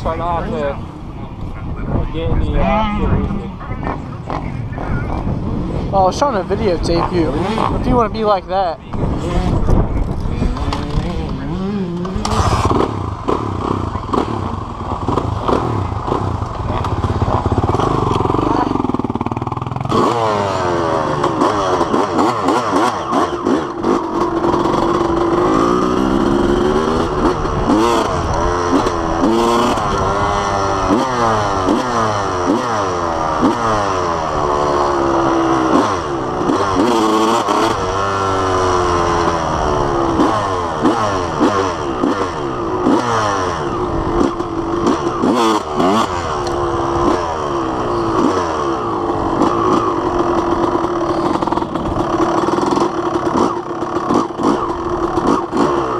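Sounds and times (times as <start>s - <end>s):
dirt bike engine revving: 2.2s - 55.9s.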